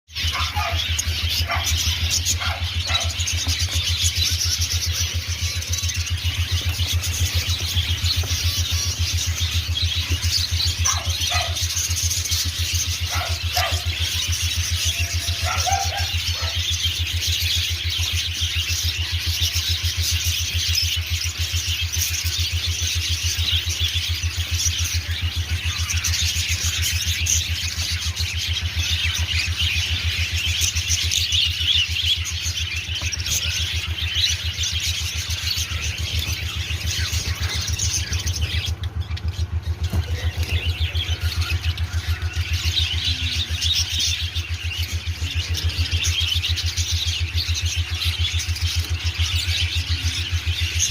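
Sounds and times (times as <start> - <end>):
small birds chirping and squealing: 0.0 - 50.9
steady low hum: 0.1 - 50.9.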